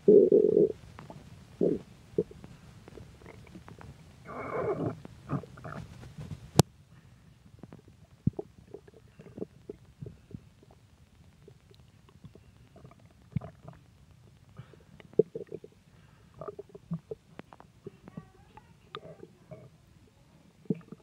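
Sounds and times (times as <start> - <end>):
stomach gurgling: 0.0 - 6.7, 7.3 - 19.9, 20.5 - 21.0.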